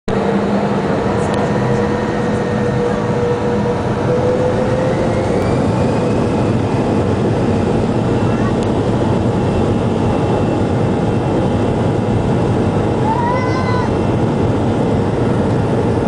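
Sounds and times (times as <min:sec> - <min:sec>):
faint engine whine: 0:00.1 - 0:16.0
jet engines humming: 0:00.1 - 0:16.0.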